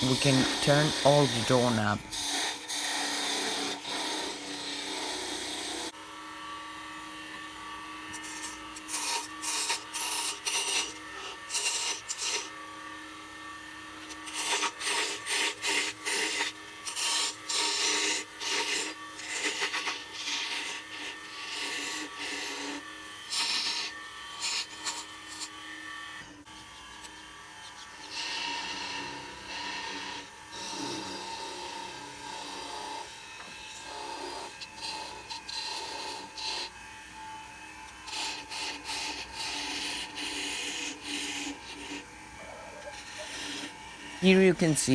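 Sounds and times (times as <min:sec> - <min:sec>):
turning tool scraping wood: 0:00.0 - 0:06.0, 0:08.0 - 0:12.6, 0:13.9 - 0:36.8, 0:37.7 - 0:44.9
wood lathe humming: 0:00.0 - 0:44.9.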